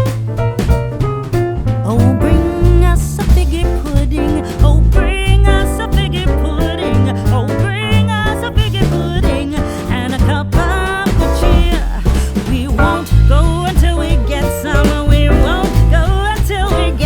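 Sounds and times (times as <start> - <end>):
upbeat song with bass and drums: 0.0 - 17.0
person singing: 1.9 - 17.0.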